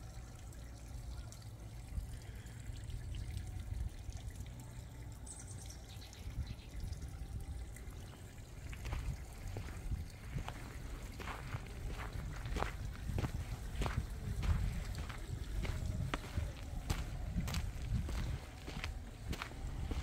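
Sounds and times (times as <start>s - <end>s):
faint trickling water: 0.0s - 20.0s
low steady rumble: 0.0s - 20.0s.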